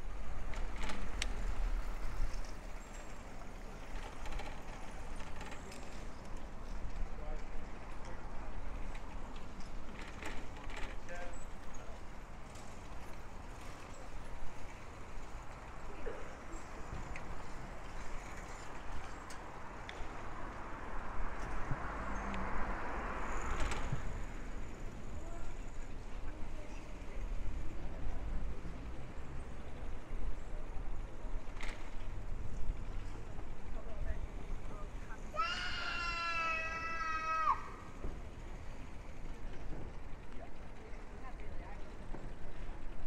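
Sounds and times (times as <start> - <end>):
low street rumble: 0.0 - 43.0
road and traffic noise: 0.0 - 43.0.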